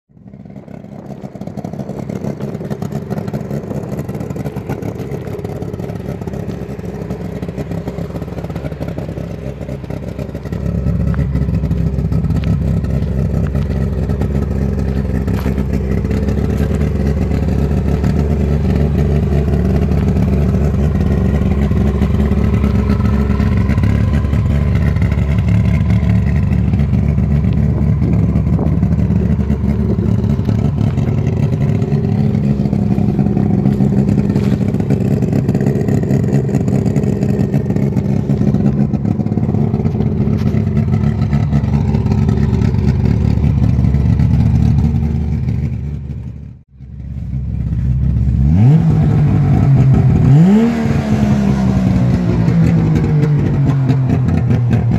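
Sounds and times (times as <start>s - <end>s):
two-stroke engine running: 0.2s - 54.9s.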